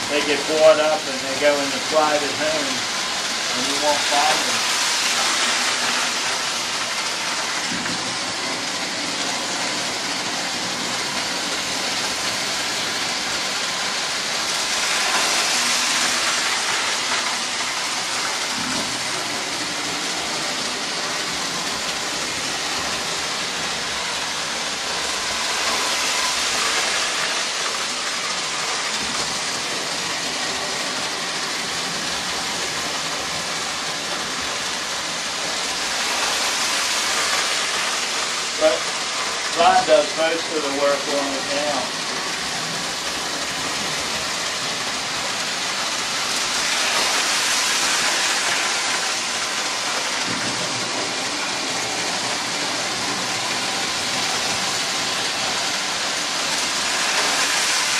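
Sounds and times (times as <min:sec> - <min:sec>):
model train rumbling on rails: 0:00.0 - 0:57.9.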